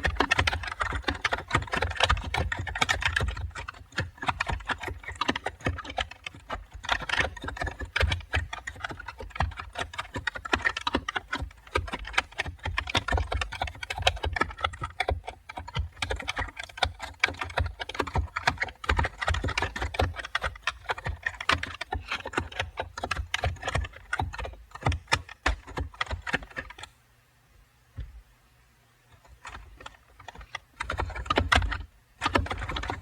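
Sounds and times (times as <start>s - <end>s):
rapid keyboard typing: 0.0s - 27.0s, 29.1s - 33.0s.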